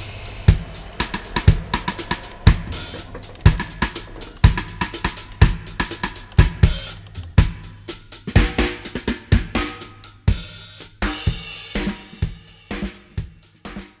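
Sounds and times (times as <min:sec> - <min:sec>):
drum kit beat: 0:00.0 - 0:14.0.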